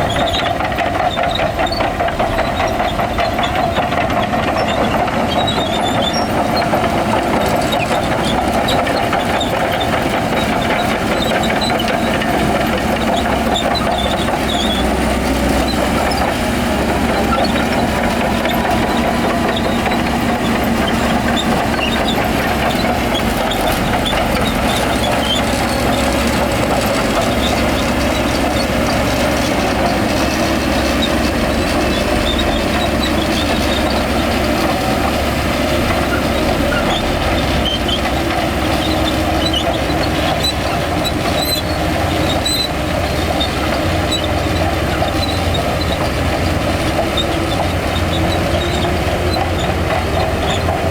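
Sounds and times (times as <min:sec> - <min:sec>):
heavy machinery diesel engines: 0:00.0 - 0:50.9.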